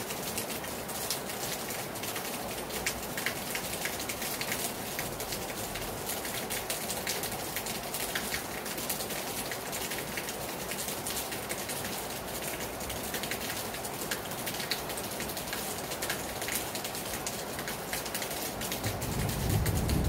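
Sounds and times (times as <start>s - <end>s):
heavy rain on a terrace: 0.0s - 20.0s
sharp ticks of raindrops: 0.0s - 20.0s.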